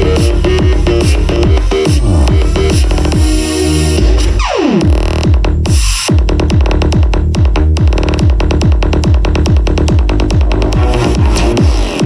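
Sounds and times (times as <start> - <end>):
electronic dance music on speaker: 0.0 - 12.0.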